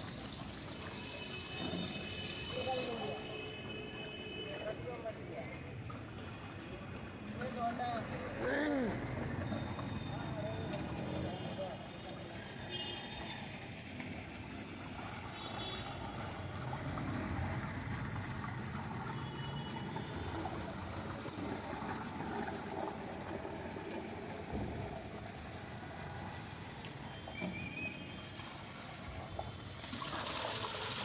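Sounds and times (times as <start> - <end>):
water gushing into steel tub: 0.0 - 3.3, 8.9 - 31.0
street traffic hum: 0.0 - 31.0.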